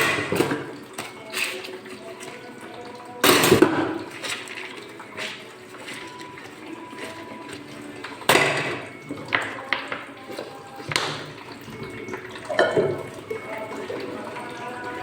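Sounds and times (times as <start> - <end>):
dishes clattering in sink: 0.0 - 15.0
running water: 0.0 - 15.0.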